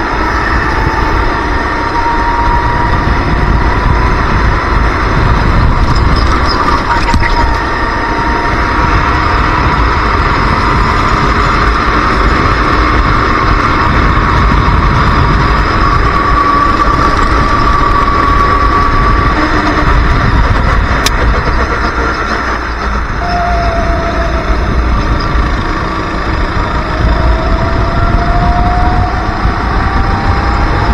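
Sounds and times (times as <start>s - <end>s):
kart engine racing: 0.0s - 30.9s.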